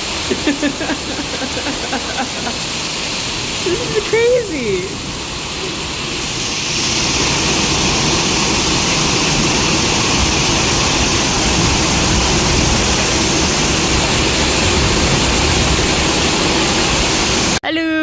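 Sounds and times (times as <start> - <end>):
heavy hailstorm with rain: 0.0 - 17.6.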